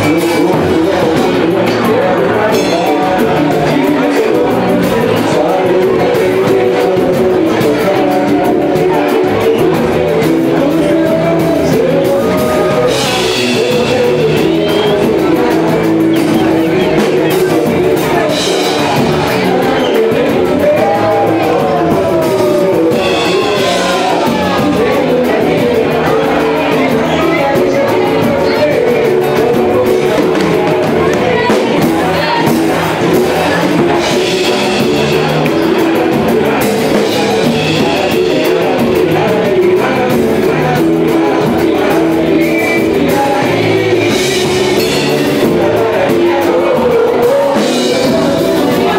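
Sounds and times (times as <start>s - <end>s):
lead singer singing: 0.0s - 48.9s
samba band playing: 0.0s - 48.9s.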